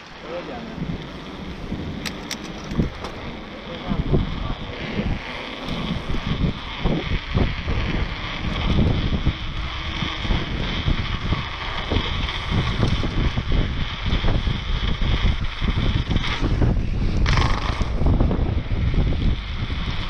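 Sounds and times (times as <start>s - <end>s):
wind on microphone: 0.0s - 20.0s
bike rattling and knocking: 0.5s - 20.0s.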